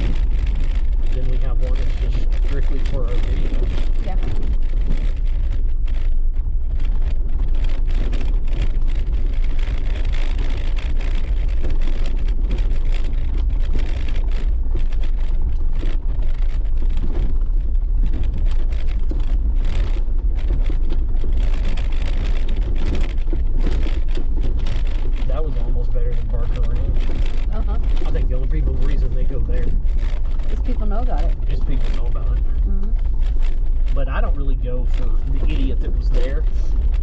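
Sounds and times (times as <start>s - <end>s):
tyres rattling over gravel: 0.0s - 37.0s
vehicle rumbling on dirt track: 0.0s - 37.0s.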